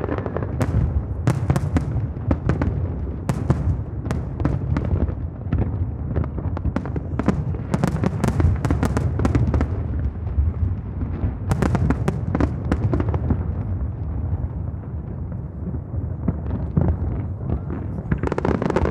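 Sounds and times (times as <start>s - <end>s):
distant explosions rumbling: 0.0s - 18.9s
fireworks cracks and bangs: 0.0s - 18.9s.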